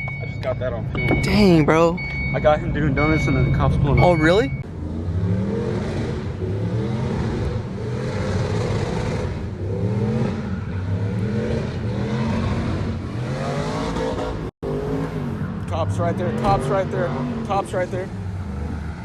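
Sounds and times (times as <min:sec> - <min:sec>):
car engine revving: 0:02.6 - 0:19.0.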